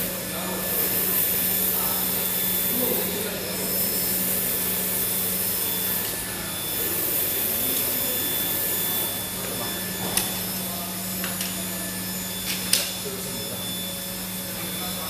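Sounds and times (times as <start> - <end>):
printer whirring with low hum: 0.0 - 15.0.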